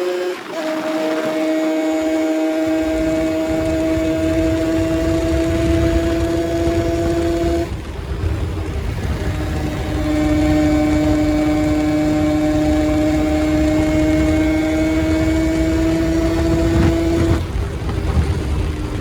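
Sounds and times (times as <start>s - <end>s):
motor humming with whine: 0.0s - 19.0s.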